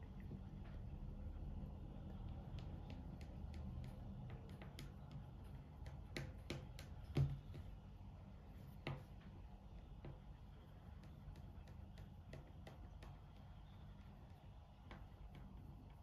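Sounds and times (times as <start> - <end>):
low steady hum: 0.0 - 16.0
fingers tapping on tabletop: 1.9 - 7.9, 8.8 - 16.0.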